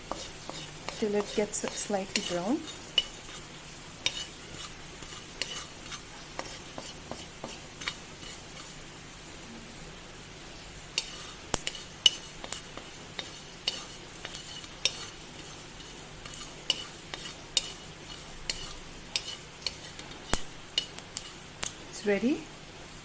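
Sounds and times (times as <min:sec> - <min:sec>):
spoon scraping pan: 0:00.0 - 0:09.0, 0:10.8 - 0:21.9
seeds sizzling in pan: 0:00.0 - 0:23.0.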